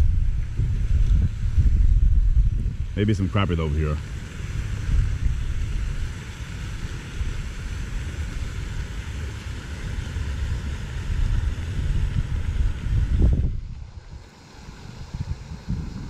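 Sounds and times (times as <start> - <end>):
faint steady hiss: 0.0 - 16.0
wind buffeting microphone: 0.0 - 16.0.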